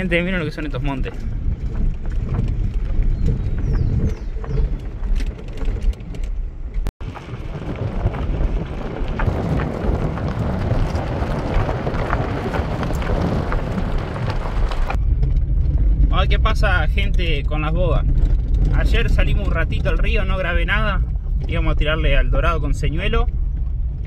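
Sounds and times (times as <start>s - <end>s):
vehicle rumble: 0.0s - 24.0s.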